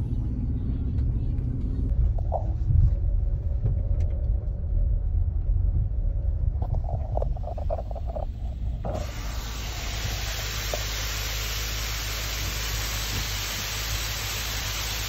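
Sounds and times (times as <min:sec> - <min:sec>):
car rumble: 0:00.0 - 0:15.0.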